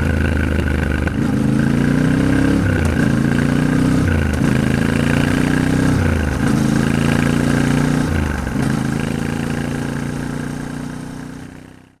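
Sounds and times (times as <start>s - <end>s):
motorcycle engine under way: 0.0s - 12.0s.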